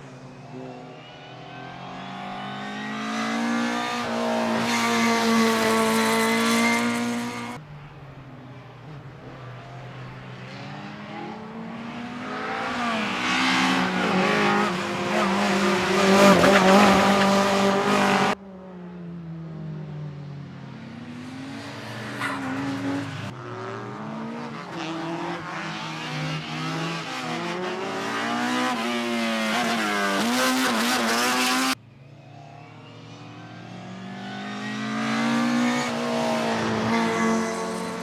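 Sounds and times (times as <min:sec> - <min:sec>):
race car engines revving: 0:00.0 - 0:31.8, 0:32.4 - 0:38.0.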